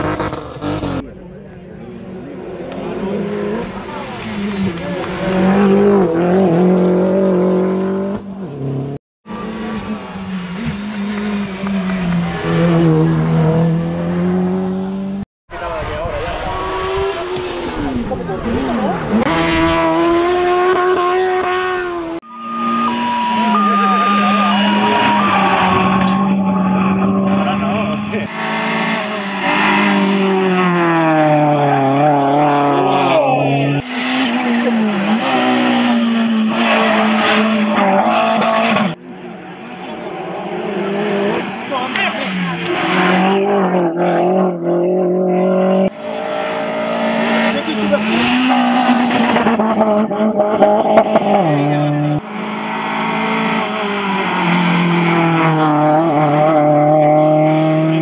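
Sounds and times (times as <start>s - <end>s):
rally car engines running hard: 0.0s - 58.0s.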